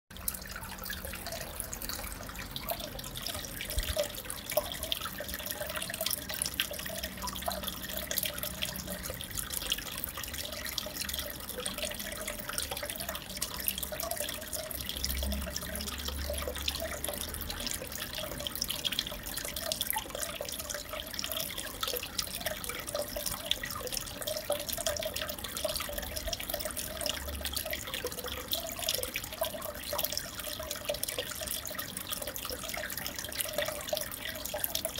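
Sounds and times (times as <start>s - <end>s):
aquarium water bubbling: 0.1s - 34.9s.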